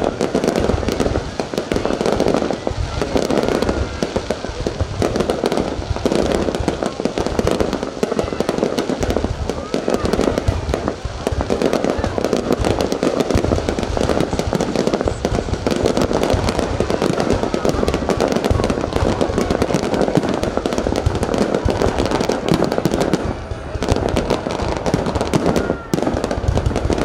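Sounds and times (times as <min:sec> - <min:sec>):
fireworks banging and crackling: 0:00.0 - 0:27.0.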